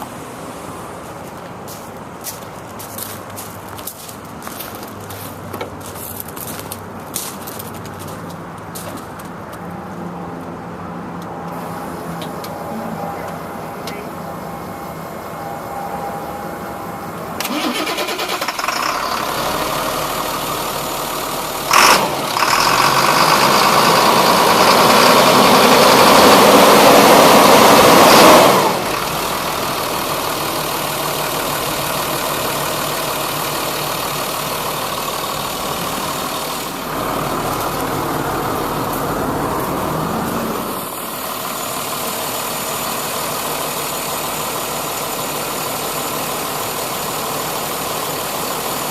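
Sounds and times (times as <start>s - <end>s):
truck engine revving and idling: 0.0s - 48.9s.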